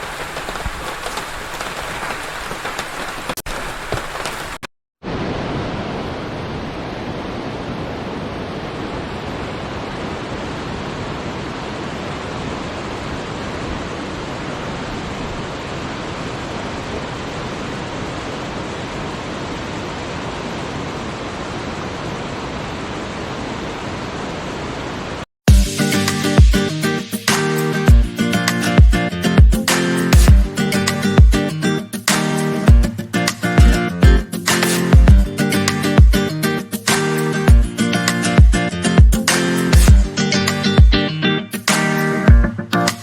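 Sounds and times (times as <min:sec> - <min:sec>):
rushing water: 0:00.0 - 0:43.0.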